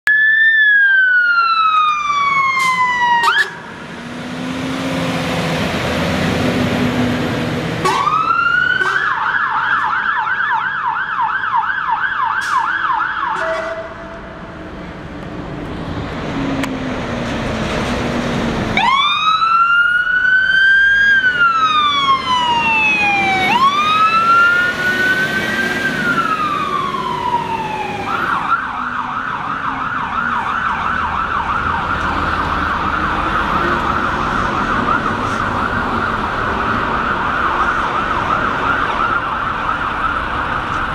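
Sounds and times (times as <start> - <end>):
fire engine siren wailing: 0.0 - 14.8, 16.1 - 40.9
road noise: 0.0 - 40.9
truck engine: 1.4 - 10.2, 13.4 - 40.9.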